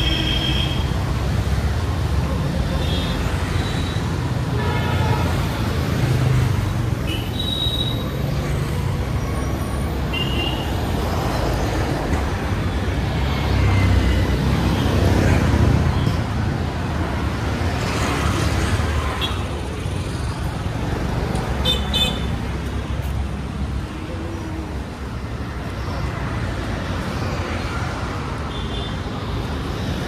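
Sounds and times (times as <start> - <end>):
passing vehicle engines rumbling: 0.0 - 30.0.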